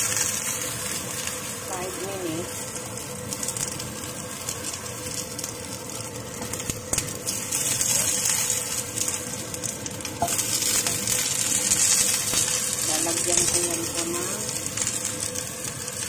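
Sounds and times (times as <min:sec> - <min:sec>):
dumplings sizzling in oil: 0:00.0 - 0:16.0.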